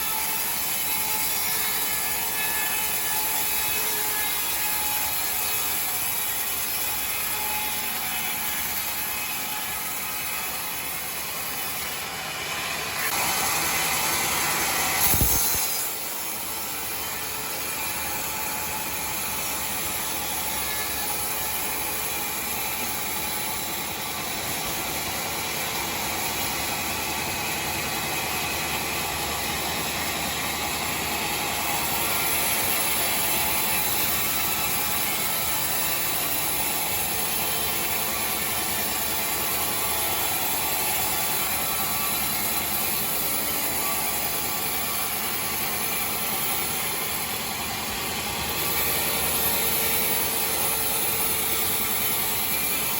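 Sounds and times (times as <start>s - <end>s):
sawmill machinery cutting timber: 0.0s - 52.9s.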